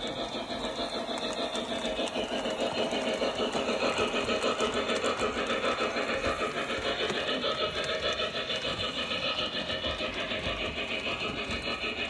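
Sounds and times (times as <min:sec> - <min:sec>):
model steam locomotive chuffing: 0:00.0 - 0:12.0
wheels clicking on track: 0:00.0 - 0:12.0.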